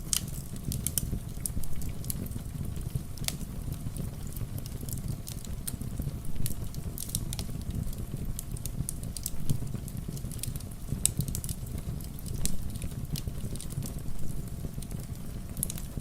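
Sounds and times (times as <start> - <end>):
low rumble of rain: 0.0 - 16.0
wood fire crackling and popping: 0.0 - 16.0.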